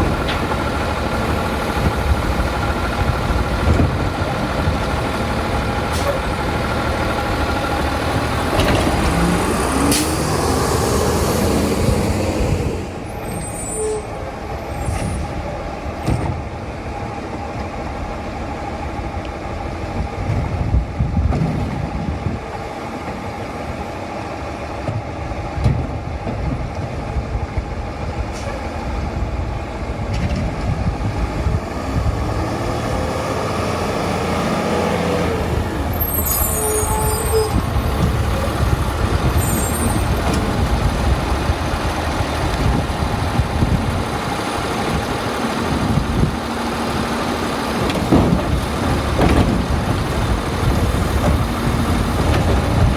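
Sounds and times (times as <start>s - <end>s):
garbage truck diesel engine: 0.0s - 52.9s.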